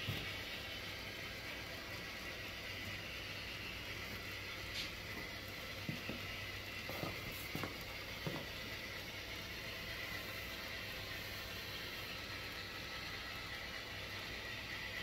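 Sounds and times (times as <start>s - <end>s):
model train cars rolling on track: 0.0s - 15.0s.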